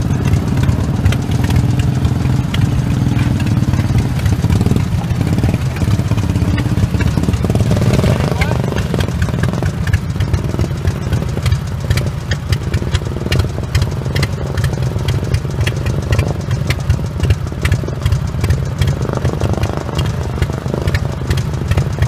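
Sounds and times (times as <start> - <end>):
lawn tractor engine running: 0.0 - 22.0.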